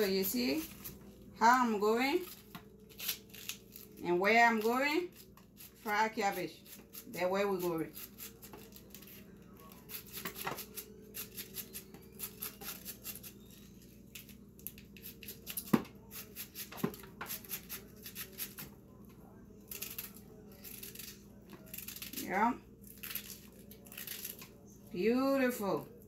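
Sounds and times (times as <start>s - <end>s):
knife shredding cabbage: 0.0s - 18.7s, 19.6s - 24.6s.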